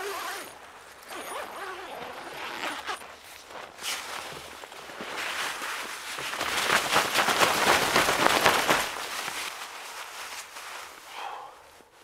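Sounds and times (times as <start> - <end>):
tent fabric rustling and crackling: 0.0 - 12.0.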